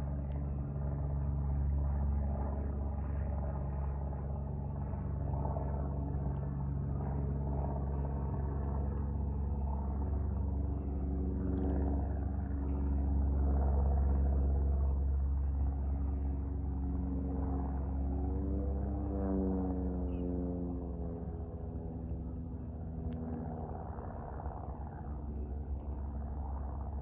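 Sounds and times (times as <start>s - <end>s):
aircraft engines droning: 0.0s - 27.0s.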